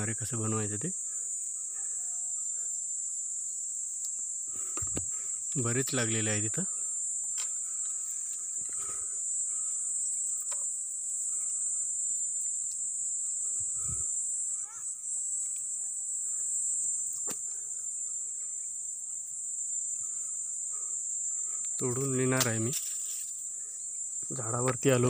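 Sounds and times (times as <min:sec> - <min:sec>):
insects shrilling: 0:00.0 - 0:25.0.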